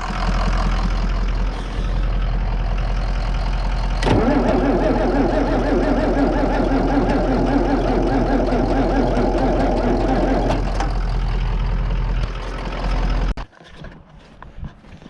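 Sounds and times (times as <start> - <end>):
engine running with pulsing: 0.0 - 13.4.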